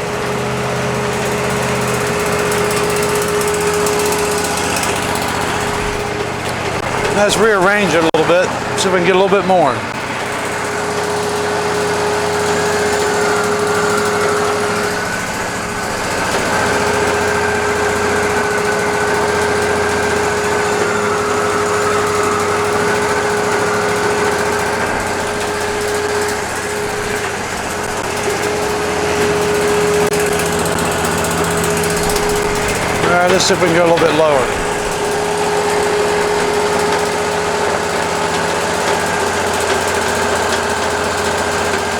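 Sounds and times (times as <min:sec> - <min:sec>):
hydraulic sawmill whine: 0:00.0 - 0:41.9.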